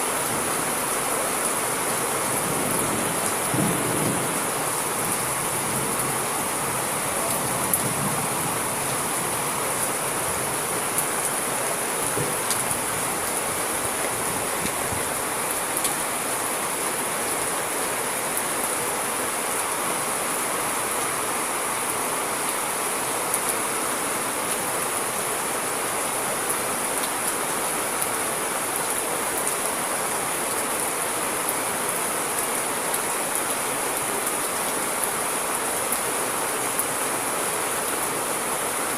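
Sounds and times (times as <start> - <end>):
heavy rain: 0.0 - 38.9
raindrops ticking on surfaces: 0.1 - 38.9.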